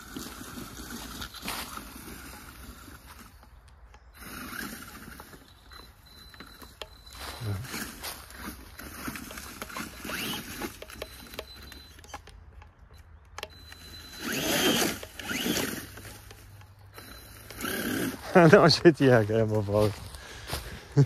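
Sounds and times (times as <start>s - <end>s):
off-road vehicle driving: 0.0s - 21.0s.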